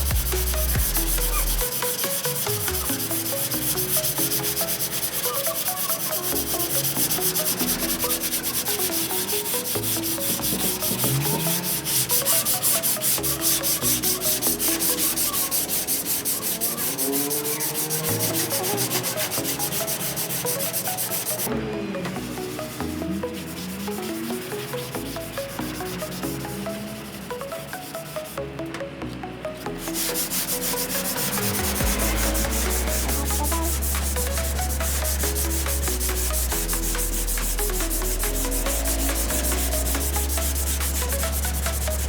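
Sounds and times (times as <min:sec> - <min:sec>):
sanding car panel: 0:00.0 - 0:21.5, 0:22.6 - 0:28.4, 0:29.8 - 0:42.0.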